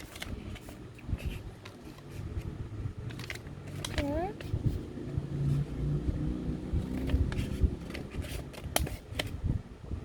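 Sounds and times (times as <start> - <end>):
plastic pack rustling and scraping: 0.0 - 5.7, 6.8 - 9.4.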